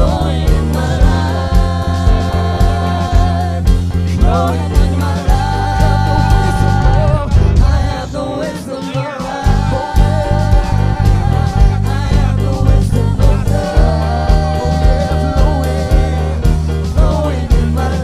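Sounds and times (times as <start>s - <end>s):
band with heavy bass: 0.0s - 18.0s
person singing: 0.0s - 18.0s.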